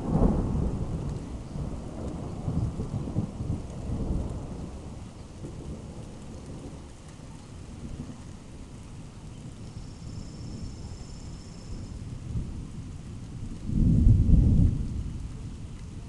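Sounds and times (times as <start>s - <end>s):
rain pattering: 0.0s - 16.0s
thunder rumbling: 0.0s - 16.0s.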